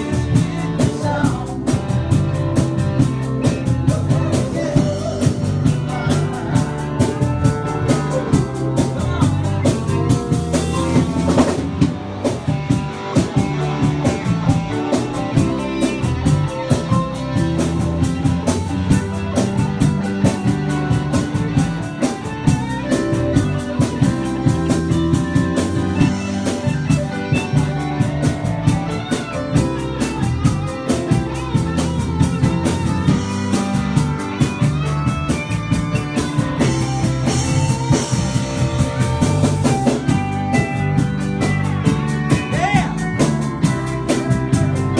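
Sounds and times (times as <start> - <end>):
drum kit beat: 0.0 - 44.9
electric guitars: 0.0 - 44.9
keyboard: 0.0 - 44.9.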